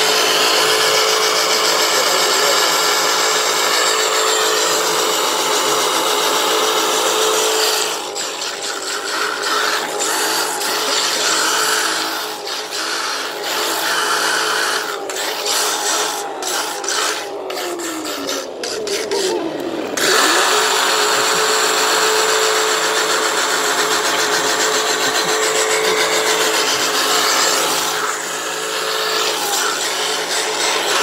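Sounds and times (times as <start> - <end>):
electric motor whining: 0.0 - 31.0
tyres scrubbing on pavement: 0.0 - 31.0.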